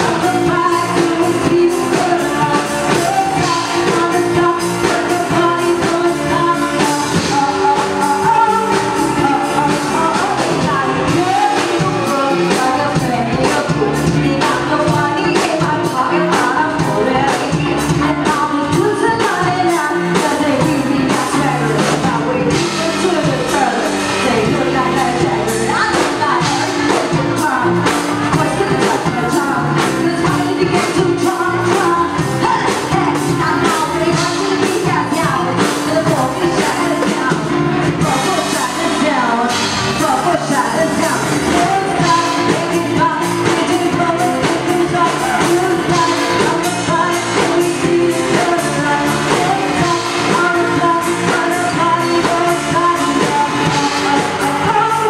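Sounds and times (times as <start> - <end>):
drums: 0.0 - 55.0
electric bass: 0.0 - 55.0
woman singing into microphone: 0.0 - 55.0.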